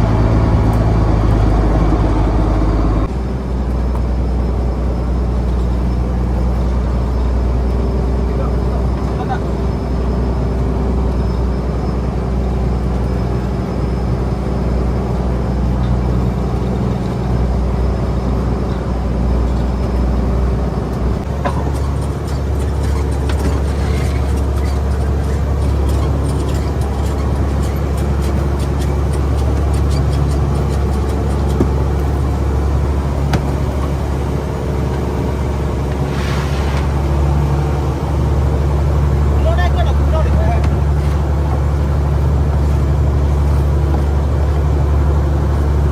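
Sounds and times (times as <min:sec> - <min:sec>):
boat engine humming: 0:00.0 - 0:45.9.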